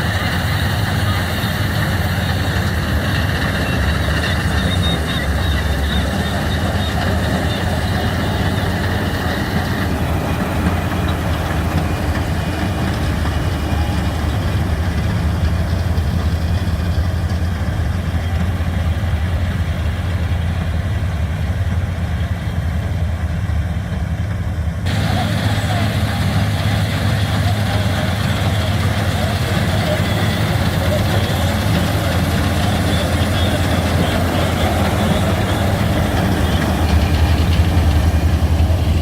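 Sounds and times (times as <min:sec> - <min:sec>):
combine harvester engine humming: 0:00.0 - 0:39.0.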